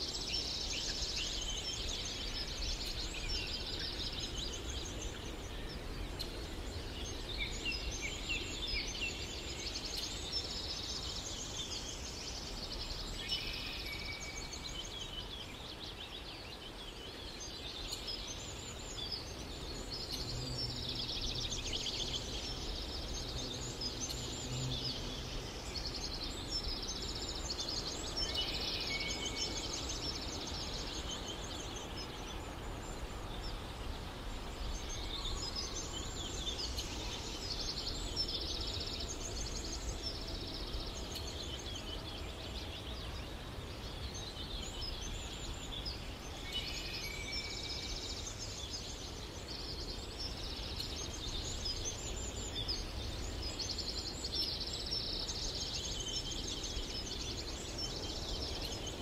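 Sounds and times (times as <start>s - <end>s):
low background hiss: 0.0s - 59.0s
songbirds chirping and trilling: 0.0s - 59.0s.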